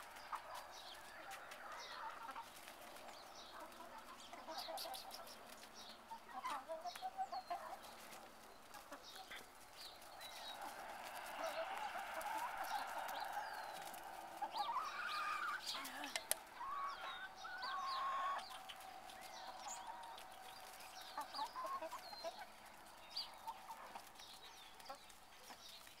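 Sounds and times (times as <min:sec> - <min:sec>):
young chickens clucking and calling: 0:00.0 - 0:26.0.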